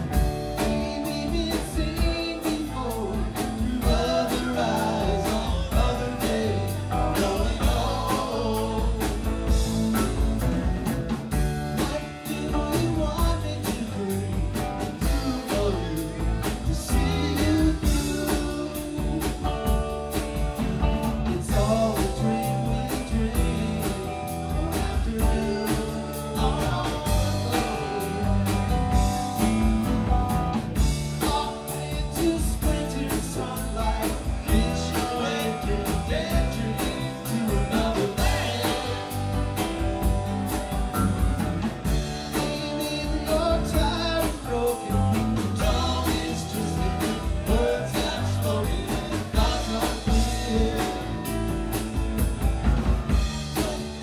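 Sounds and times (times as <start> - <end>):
man singing: 0.0 - 10.5, 11.3 - 30.2, 30.8 - 40.7, 41.8 - 52.1, 53.2 - 54.0
drum kit: 0.0 - 54.0
electric guitars: 0.0 - 54.0
keyboard: 0.0 - 54.0.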